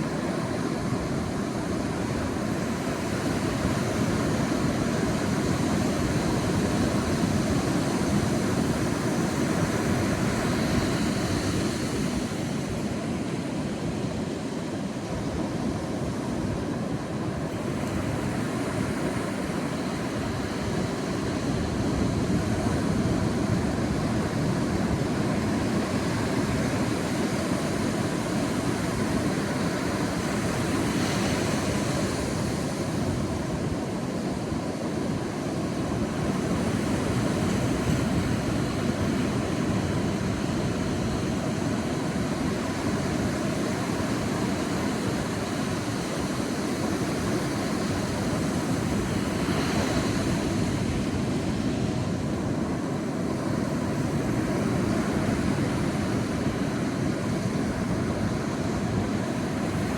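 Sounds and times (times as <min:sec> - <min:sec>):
sea surf on beach: 0:00.0 - 0:59.9.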